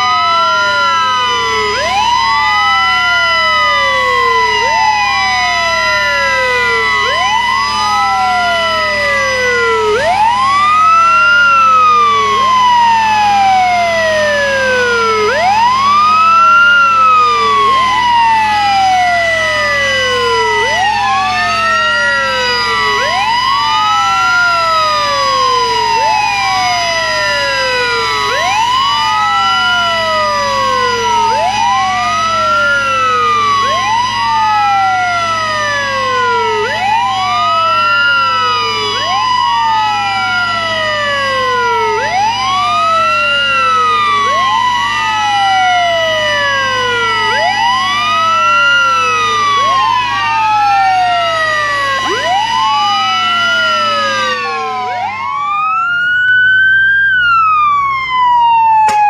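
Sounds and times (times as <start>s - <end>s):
fire truck sirens wailing: 0.0s - 59.0s
steady held siren tone: 0.0s - 59.0s.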